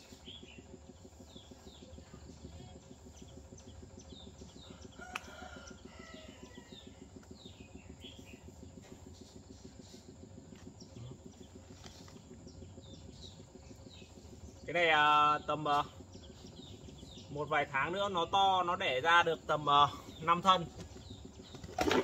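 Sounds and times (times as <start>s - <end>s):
faint birds chirping: 0.0s - 22.0s
steady low hum: 0.0s - 22.0s.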